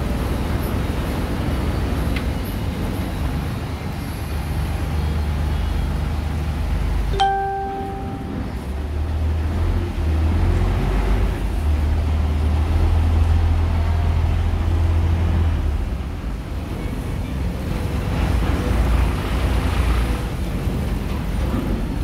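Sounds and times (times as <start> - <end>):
ferry engine droning: 0.0 - 22.0.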